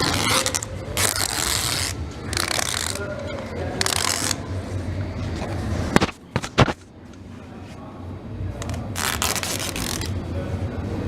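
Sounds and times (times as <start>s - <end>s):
low rumble of large hall: 0.0s - 11.0s.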